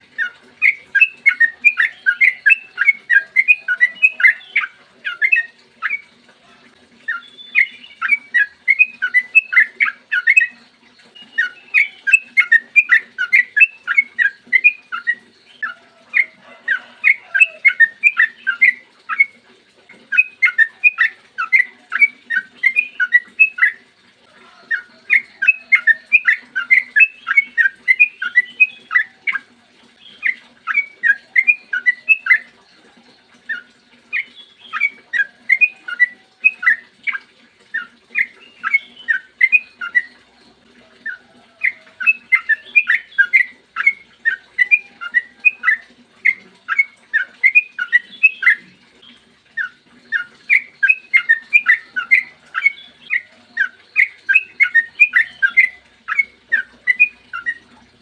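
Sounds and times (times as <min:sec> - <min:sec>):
bird singing chattering notes: 0:00.0 - 0:06.2, 0:07.0 - 0:23.9, 0:24.7 - 0:32.7, 0:33.4 - 0:58.0.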